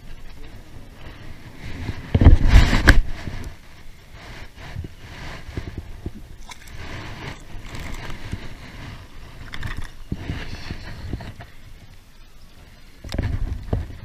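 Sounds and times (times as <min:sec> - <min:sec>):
rustling and scraping: 0:00.0 - 0:14.0.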